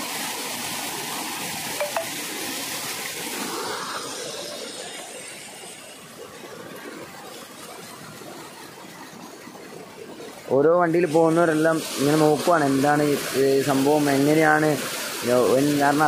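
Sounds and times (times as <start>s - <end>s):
stream water rushing over rocks: 0.0s - 16.0s.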